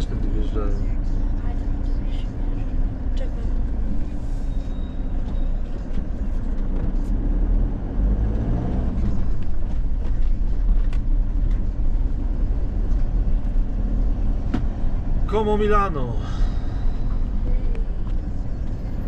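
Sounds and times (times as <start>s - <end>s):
engine and tyres rumbling: 0.0s - 19.0s.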